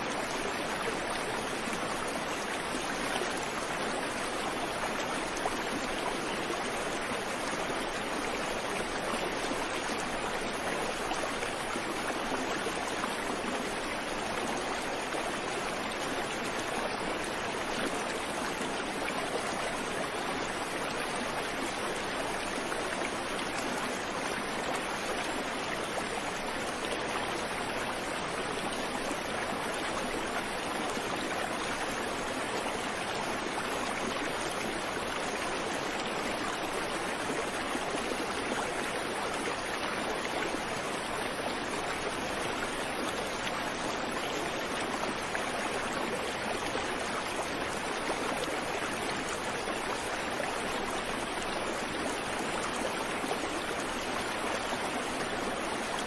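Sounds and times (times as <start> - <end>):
creek water over rocks: 0.0 - 56.0.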